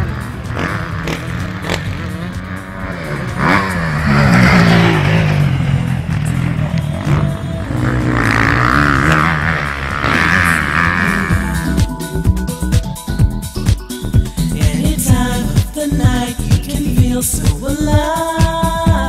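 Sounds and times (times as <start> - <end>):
background music: 0.0 - 19.0
motorcycle engines revving: 0.0 - 19.0.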